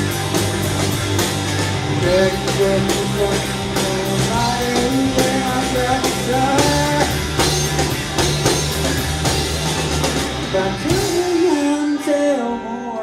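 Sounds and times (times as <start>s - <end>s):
drums and bass: 0.0s - 13.0s
lead electric guitar melody: 0.0s - 13.0s.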